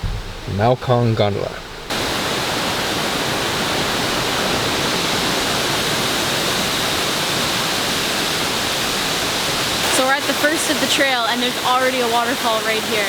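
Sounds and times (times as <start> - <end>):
waterfall rushing: 1.9 - 13.0.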